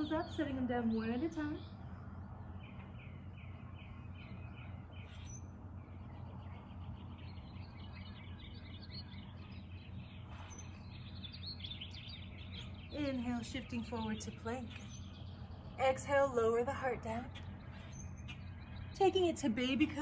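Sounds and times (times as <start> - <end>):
low background rumble: 0.0 - 20.0
small birds chirping: 0.0 - 20.0.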